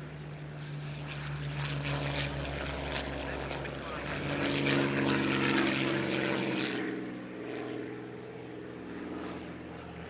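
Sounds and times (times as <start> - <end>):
propeller plane engine drone: 0.0 - 10.0.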